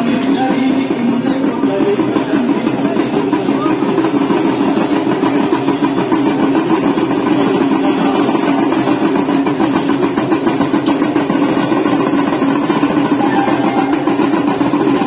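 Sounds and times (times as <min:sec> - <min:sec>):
devotional music and percussion: 0:00.0 - 0:15.0.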